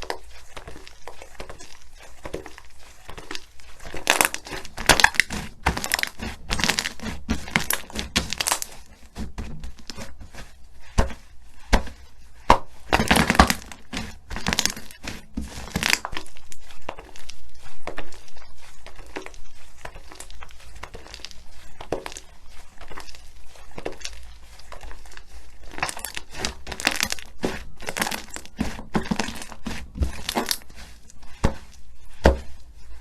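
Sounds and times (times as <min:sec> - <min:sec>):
slime crackling and squelching: 0:00.0 - 0:33.0.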